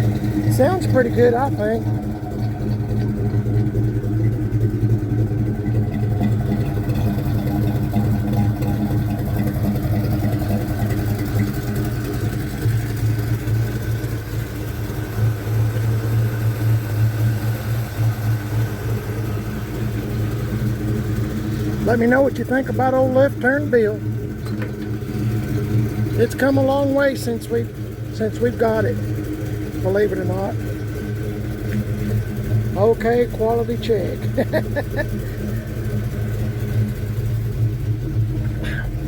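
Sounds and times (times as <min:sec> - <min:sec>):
pickup truck engine idling: 0:00.0 - 0:39.0.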